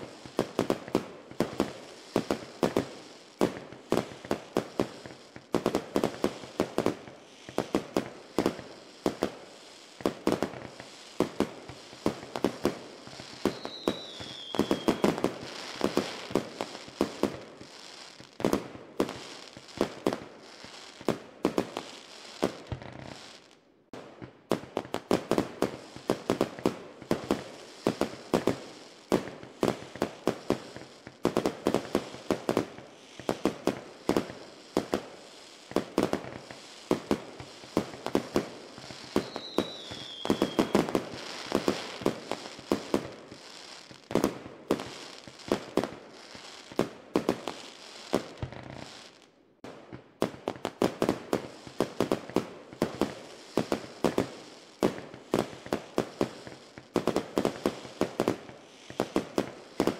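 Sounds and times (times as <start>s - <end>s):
fireworks popping and banging: 0.0s - 59.9s.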